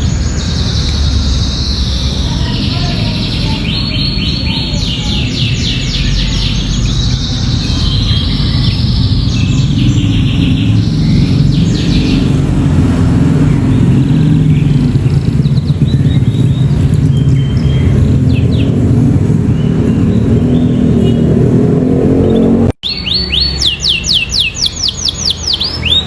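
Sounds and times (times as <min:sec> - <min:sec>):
canary singing rapid trills: 0:00.0 - 0:21.5, 0:22.3 - 0:26.0.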